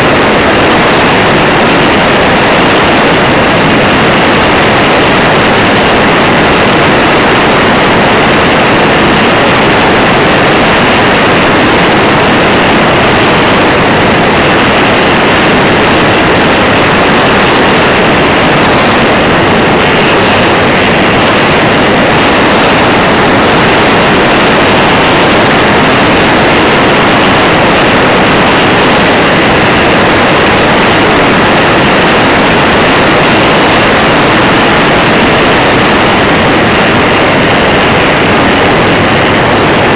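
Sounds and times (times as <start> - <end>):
propeller and motor noise: 0.0 - 39.9
wind on microphone: 0.0 - 39.9.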